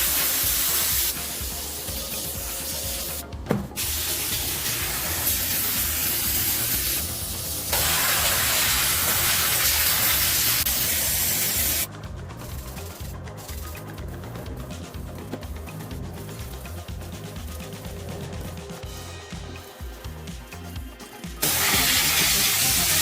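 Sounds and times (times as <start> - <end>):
pressurised spray hissing: 0.0 - 14.4, 15.6 - 23.0.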